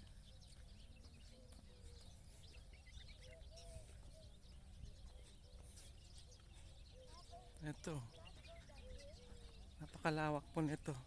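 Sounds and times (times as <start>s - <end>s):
bird calls and chirps: 0.0s - 11.0s.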